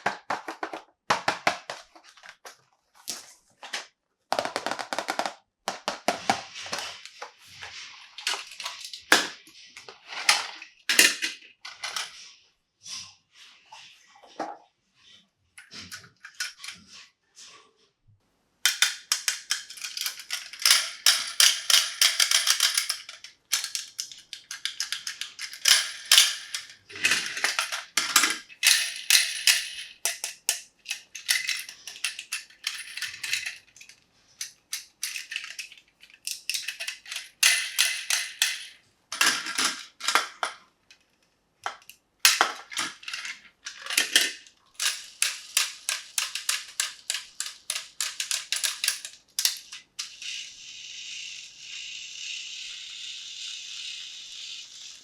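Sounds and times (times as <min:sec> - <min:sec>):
small toys clicking and clattering: 0:04.4 - 0:12.2, 0:15.6 - 0:17.0, 0:18.6 - 0:55.0.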